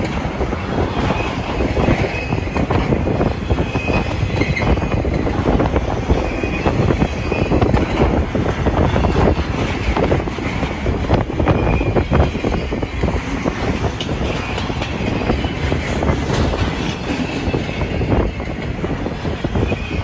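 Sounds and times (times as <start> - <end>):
train wheels rumbling on rails: 0.0 - 20.0
wheels clacking over rail joints: 0.0 - 20.0.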